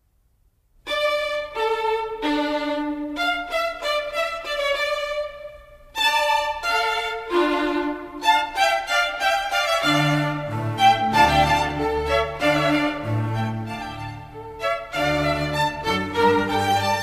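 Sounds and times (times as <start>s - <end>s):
violin melody: 0.9s - 17.0s.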